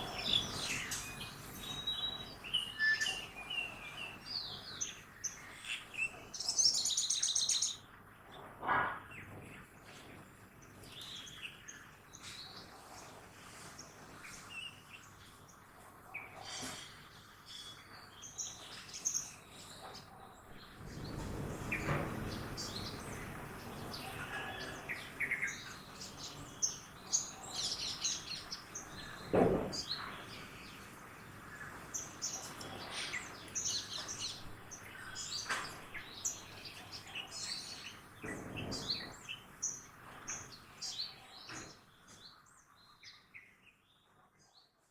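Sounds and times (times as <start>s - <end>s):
small birds chirping: 0.0s - 8.4s, 9.0s - 44.9s.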